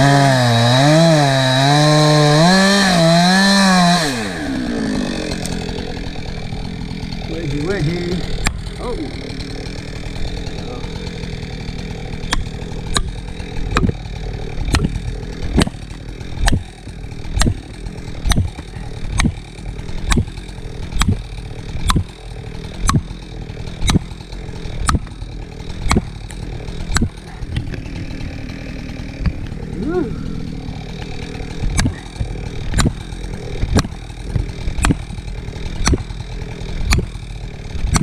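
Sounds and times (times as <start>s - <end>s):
chainsaw idling: 0.0s - 38.0s.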